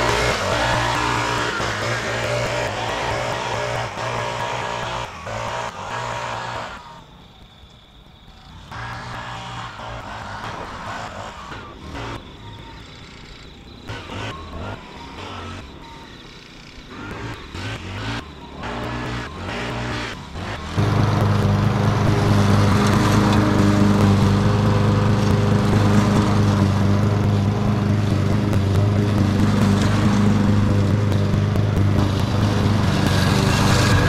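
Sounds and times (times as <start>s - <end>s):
lawn mower engine cutting grass: 0.0s - 6.8s, 8.7s - 12.2s, 16.5s - 34.0s.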